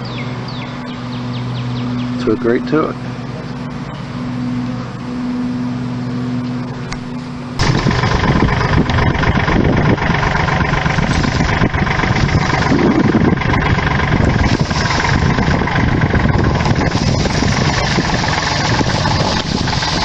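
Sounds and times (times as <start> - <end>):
engine idling: 0.0 - 20.0
loud rough engine: 0.0 - 20.0.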